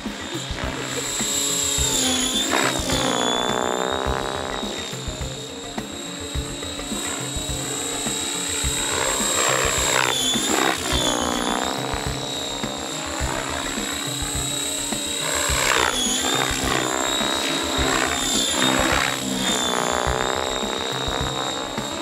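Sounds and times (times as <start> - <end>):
model helicopter whine and rotor: 0.0 - 22.0.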